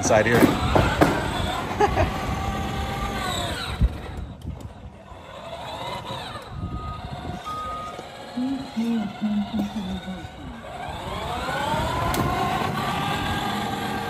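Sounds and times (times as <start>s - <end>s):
electric toy car motor whining: 0.2s - 14.0s.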